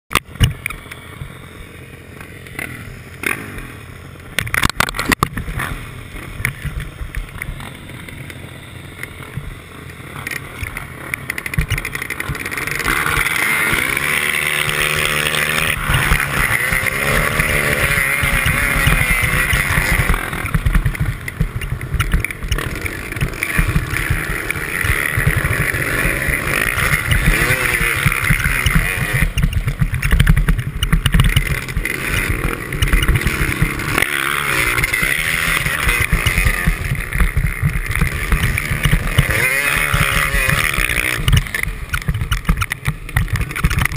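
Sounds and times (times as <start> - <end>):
motocross bike engines revving: 0.1 - 43.9.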